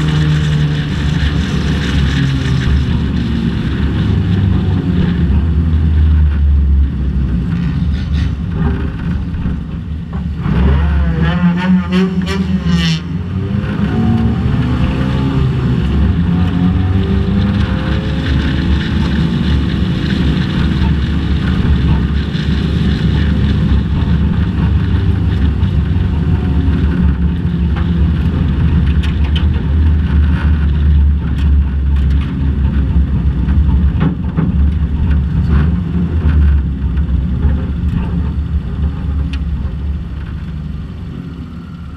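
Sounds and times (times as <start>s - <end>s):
race car engine running hard: 0.0s - 41.9s
road and wind noise: 0.0s - 41.9s.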